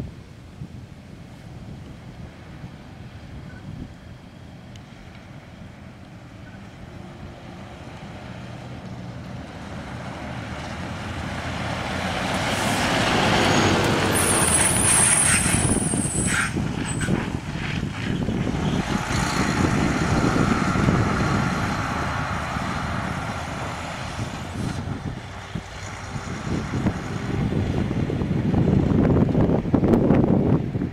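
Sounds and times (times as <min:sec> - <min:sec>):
diesel engine of farm vehicle: 0:00.0 - 0:30.9.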